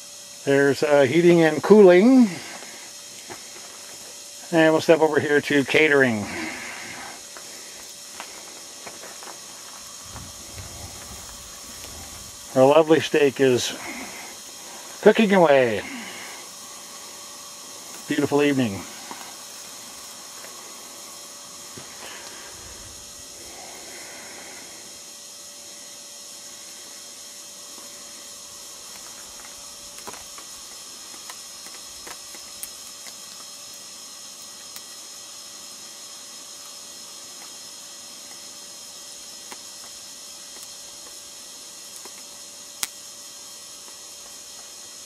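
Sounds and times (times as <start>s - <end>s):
background hiss: 0.0s - 45.0s
campfire crackling: 0.4s - 45.0s.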